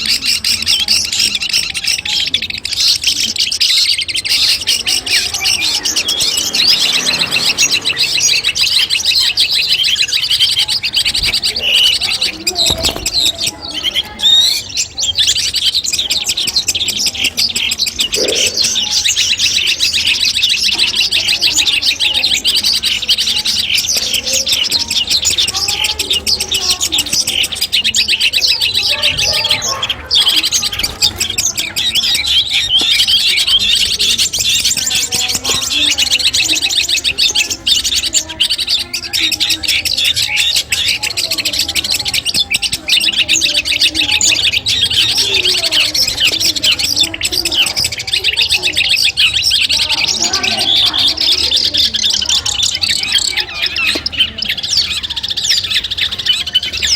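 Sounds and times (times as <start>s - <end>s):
bird singing rapid chattering song: 0.0s - 56.9s.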